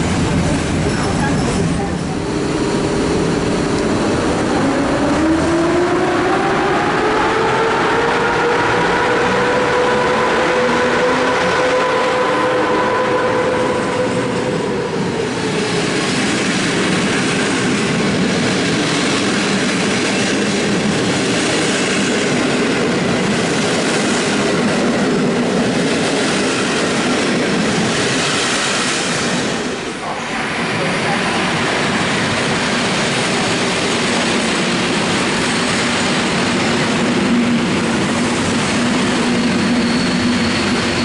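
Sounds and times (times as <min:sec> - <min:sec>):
locomotive whine: 0:00.0 - 0:41.0
train wheels rumbling on rails: 0:00.0 - 0:41.0.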